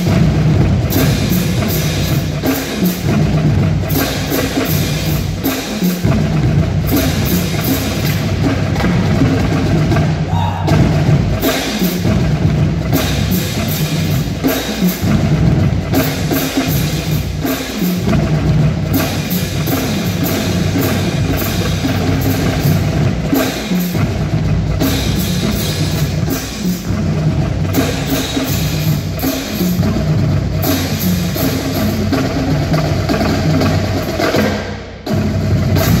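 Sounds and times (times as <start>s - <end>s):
marching drumline playing: 0.0s - 36.0s.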